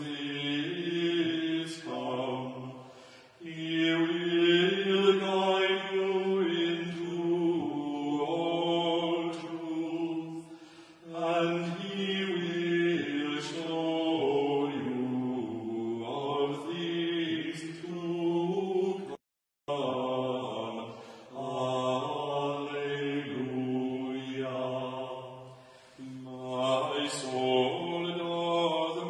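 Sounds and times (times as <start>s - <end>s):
men singing unaccompanied chant: 0.0s - 2.8s, 3.4s - 10.4s, 11.0s - 25.4s, 26.0s - 29.0s.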